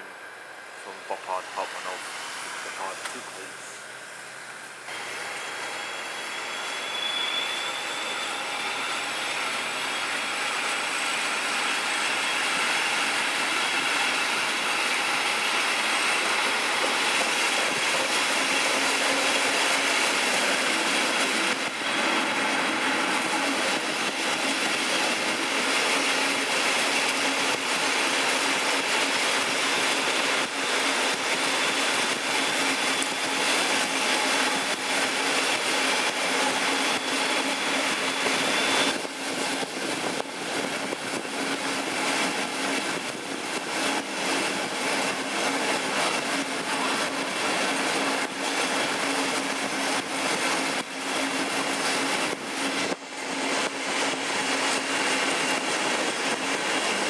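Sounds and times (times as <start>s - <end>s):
diesel locomotive engine growl: 0.0s - 57.0s
rail noise: 0.0s - 57.0s.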